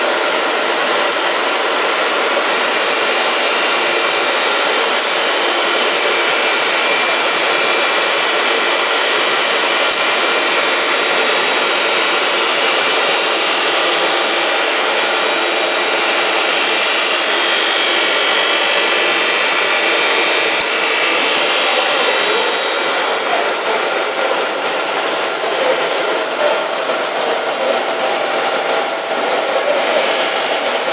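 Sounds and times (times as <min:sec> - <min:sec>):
glass edging machine running: 0:00.0 - 0:30.9.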